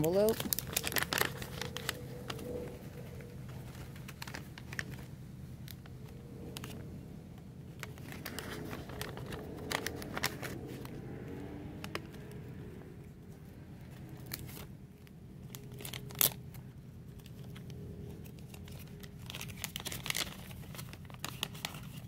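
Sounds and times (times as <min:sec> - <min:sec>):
plastic crinkling and rustling: 0:00.0 - 0:12.4, 0:13.8 - 0:22.0
steady low hum: 0:00.0 - 0:22.0.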